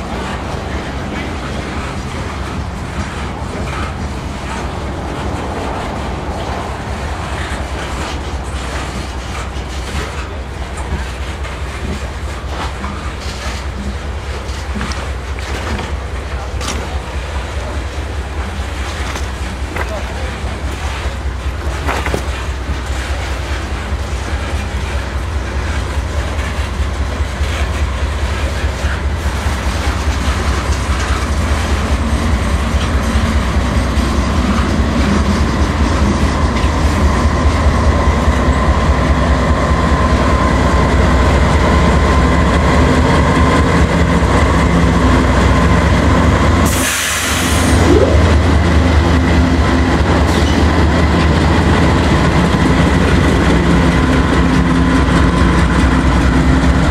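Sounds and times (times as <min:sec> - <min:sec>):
diesel locomotive rumble: 0:00.0 - 0:56.9
train wheels clacking: 0:00.0 - 0:56.9.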